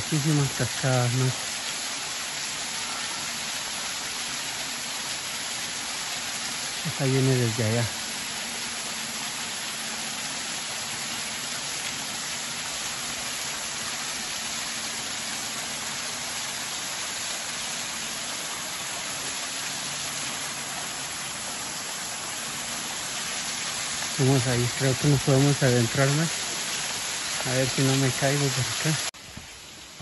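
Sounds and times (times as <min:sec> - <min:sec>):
waterfall rushing: 0:00.0 - 0:29.2.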